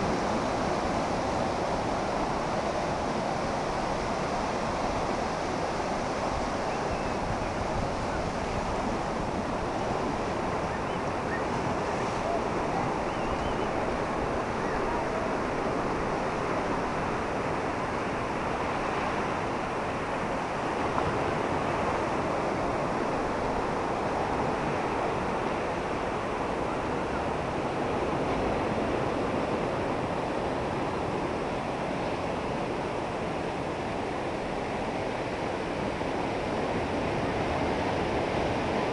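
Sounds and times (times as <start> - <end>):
ocean surf on rocky beach: 0.0 - 38.9
wind buffeting microphone: 0.0 - 38.9.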